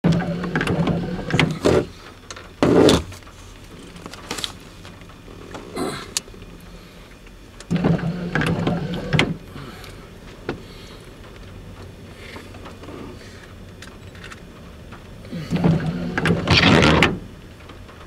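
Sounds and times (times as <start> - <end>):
diesel locomotive hum: 0.0 - 18.0.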